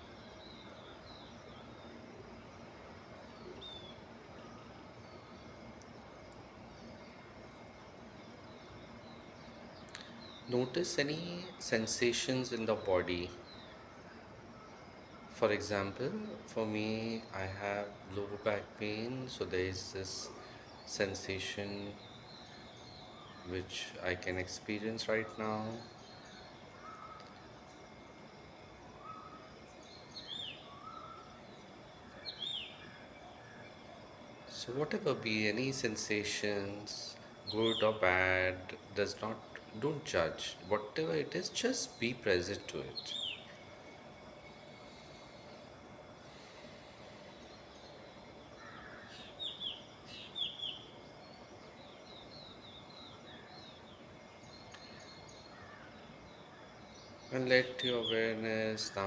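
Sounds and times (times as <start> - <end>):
birds chirping: 0.0 - 59.0
faint background hiss: 0.0 - 59.0.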